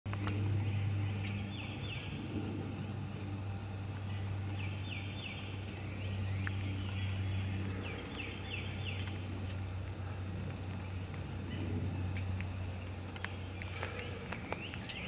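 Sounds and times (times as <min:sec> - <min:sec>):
birds chirping: 0:00.1 - 0:15.0
steady low hum: 0:00.1 - 0:15.0.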